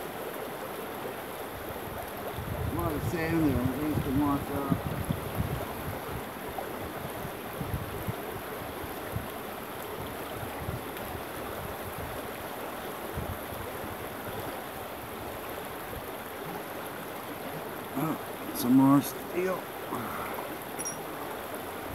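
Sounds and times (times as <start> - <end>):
creek water rushing over stones: 0.0 - 21.9.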